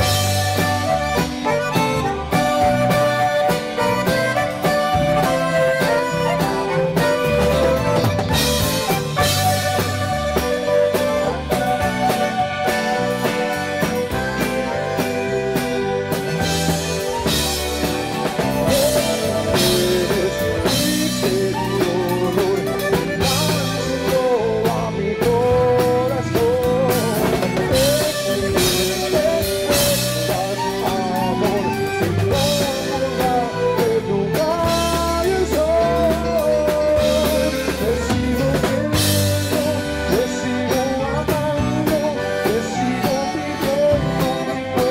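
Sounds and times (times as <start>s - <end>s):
band playing: 0.0s - 44.9s
wavering accordion melody: 0.0s - 44.9s.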